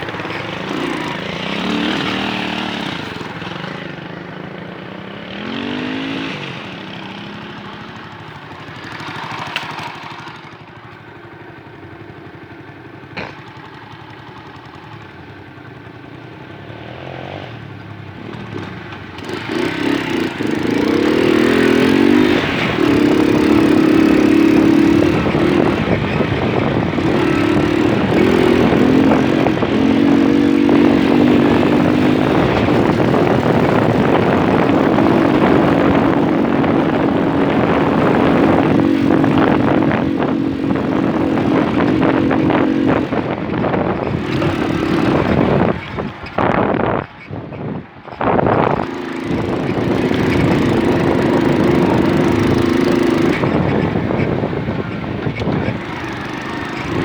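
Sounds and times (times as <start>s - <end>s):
moped engine running: 0.0s - 57.0s.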